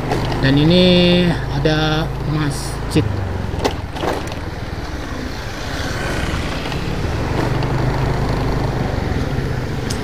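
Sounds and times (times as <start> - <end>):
motorcycle engine running: 0.0 - 10.0
road noise: 0.0 - 10.0.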